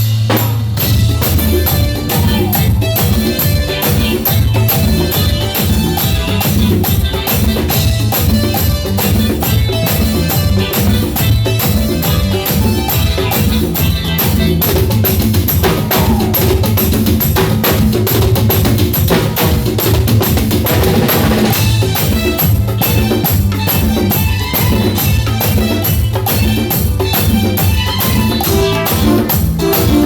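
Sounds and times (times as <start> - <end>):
bass line: 0.0 - 30.0
drum beat and percussion: 0.0 - 30.0
live band music: 0.0 - 30.0.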